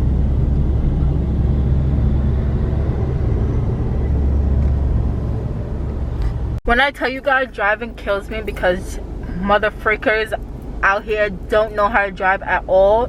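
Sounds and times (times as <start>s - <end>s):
car engine: 0.0s - 13.0s
tyre road rumble: 0.0s - 13.0s.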